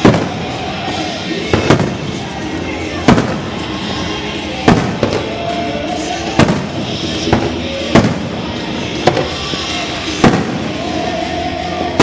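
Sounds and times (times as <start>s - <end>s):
fireworks booming: 0.0s - 11.2s
background music: 0.0s - 12.0s
fireworks crackling: 0.0s - 12.0s.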